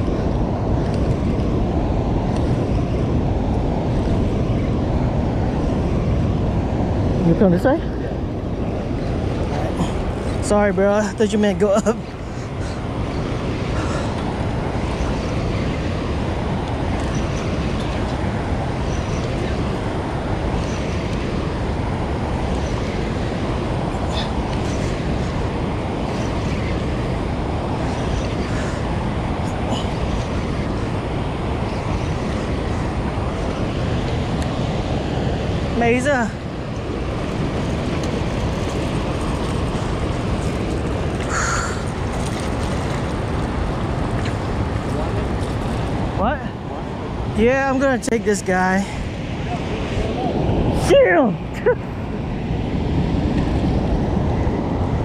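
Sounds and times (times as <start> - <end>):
rushing water: 0.0 - 55.0
wind noise: 0.0 - 55.0.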